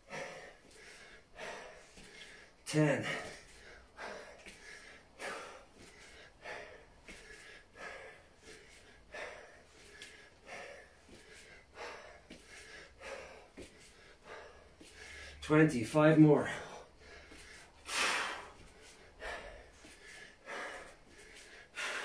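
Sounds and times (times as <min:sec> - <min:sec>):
man breathing hard: 0:00.0 - 0:15.5, 0:16.2 - 0:22.0.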